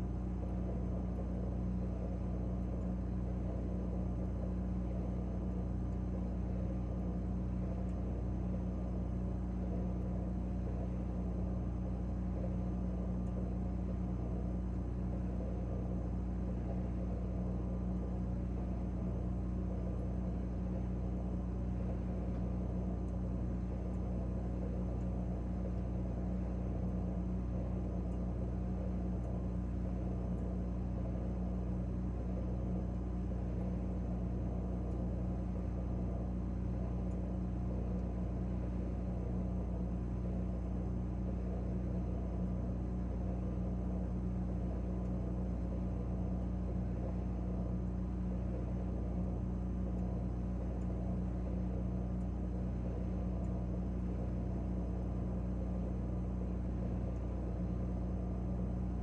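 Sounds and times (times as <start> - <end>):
refrigerator humming: 0.0 - 59.0.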